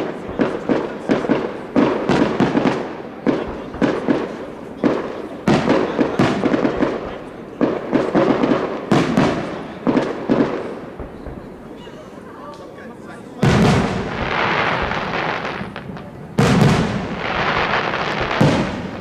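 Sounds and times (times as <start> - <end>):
fireworks bangs with echo: 0.0 - 19.0.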